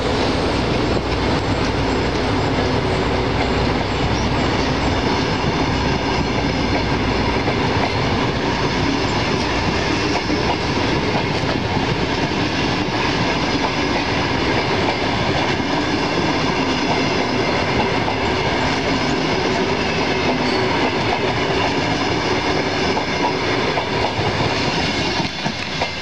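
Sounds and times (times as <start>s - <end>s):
train wheels clattering on rails: 0.0s - 26.0s.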